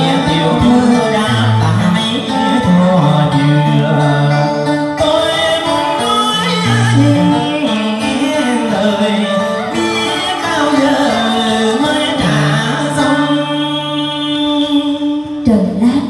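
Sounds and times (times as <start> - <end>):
amplified instrumental accompaniment: 0.0 - 16.0
man singing into microphone: 0.0 - 16.0.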